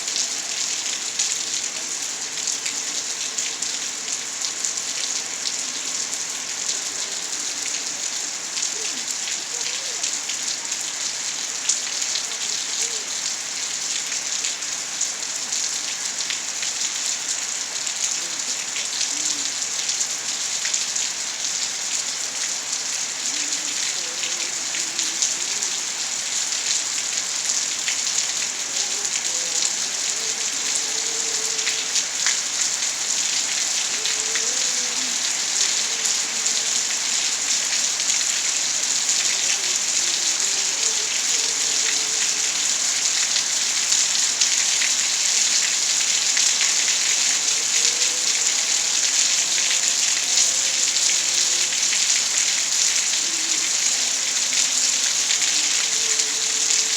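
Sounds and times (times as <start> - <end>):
raindrops ticking on surfaces: 0.0 - 56.9
steady rain pouring: 0.0 - 56.9.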